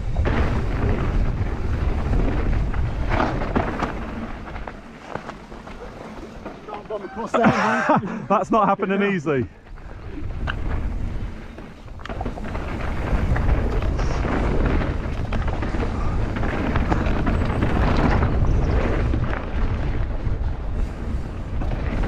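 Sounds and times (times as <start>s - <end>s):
wind rumble on microphone: 0.0s - 6.7s, 9.6s - 22.0s
bike clattering over rough ground: 0.0s - 22.0s
tyre noise: 0.0s - 22.0s.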